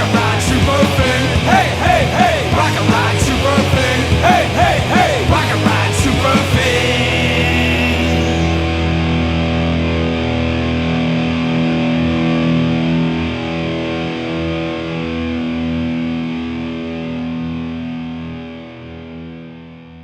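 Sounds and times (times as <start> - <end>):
distorted electric guitar chord ringing: 0.0 - 19.8.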